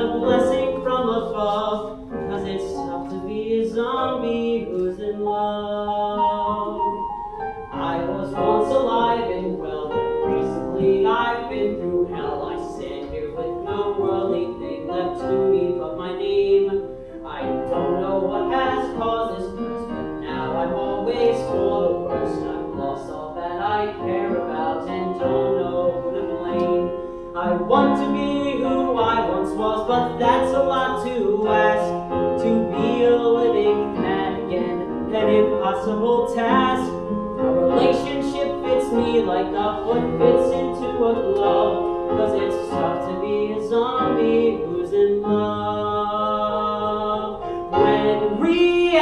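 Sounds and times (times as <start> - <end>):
man singing a show tune: 0.0 - 7.1, 7.7 - 49.0
instrumental accompaniment: 0.0 - 49.0.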